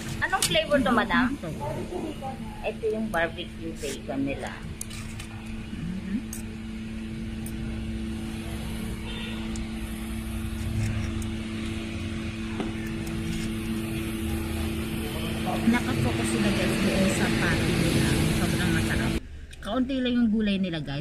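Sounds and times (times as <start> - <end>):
mechanical hum with low rumble: 0.0 - 21.0.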